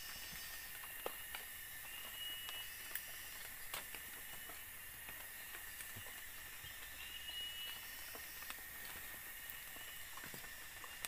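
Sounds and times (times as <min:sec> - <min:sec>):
footsteps on dry leaves: 0:00.0 - 0:11.0
high-pitched insect chorus: 0:00.0 - 0:11.0.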